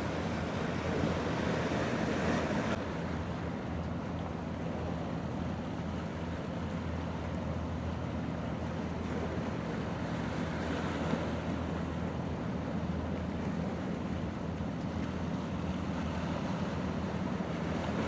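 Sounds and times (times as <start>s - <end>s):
marine engine hum: 0.0s - 18.0s
waves lapping: 0.0s - 18.0s.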